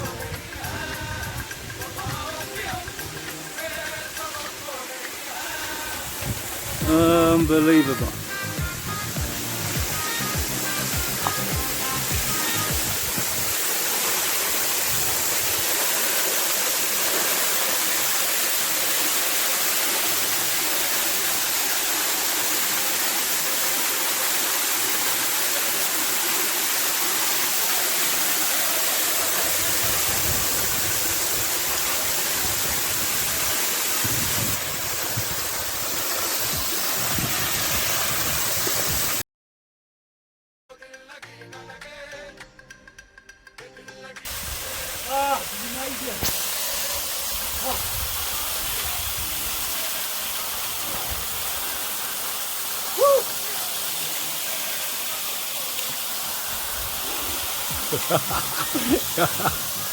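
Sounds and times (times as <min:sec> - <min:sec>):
waterfall rushing: 0:00.0 - 0:39.2, 0:44.3 - 0:59.9.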